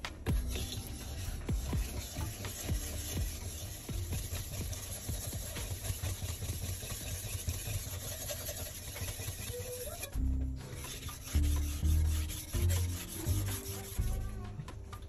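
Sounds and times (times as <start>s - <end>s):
background music with deep bass: 0.0s - 7.8s, 10.2s - 15.0s
knife scraping on whetstone: 0.3s - 14.3s.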